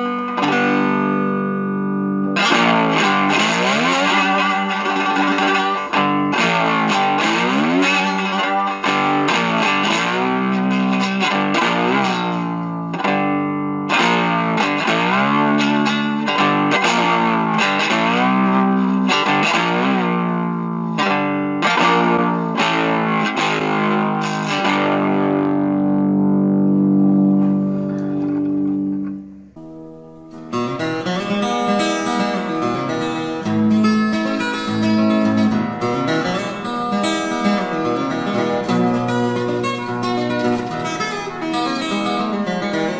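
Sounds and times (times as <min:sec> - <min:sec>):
guitar instrumental: 0:00.0 - 0:42.9.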